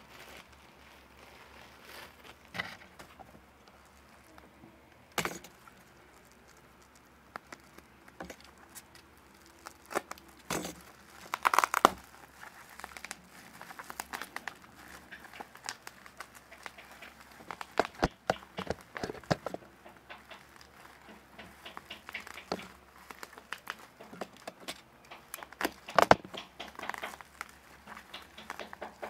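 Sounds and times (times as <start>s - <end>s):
bubble wrap crinkling and crackling: 0.0s - 29.0s.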